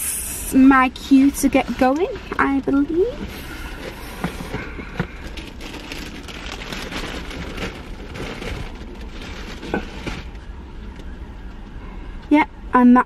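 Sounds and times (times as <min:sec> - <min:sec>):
rain pattering on car roof: 0:01.0 - 0:11.8.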